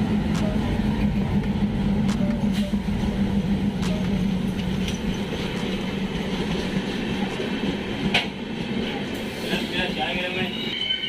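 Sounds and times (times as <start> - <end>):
diesel locomotive engine humming: 0.0 - 11.0
train wheels clicking on rail joints: 0.2 - 9.2.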